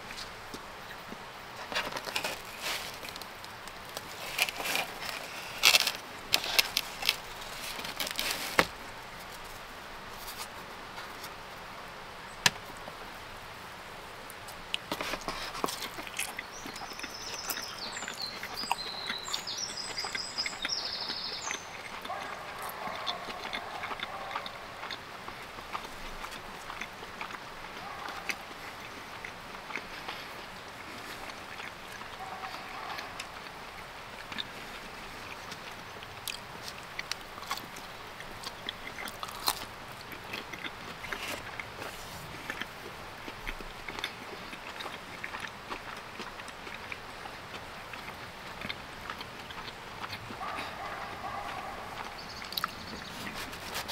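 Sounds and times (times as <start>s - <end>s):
crunchy bites and chewing: 1.6s - 9.5s, 14.7s - 53.9s.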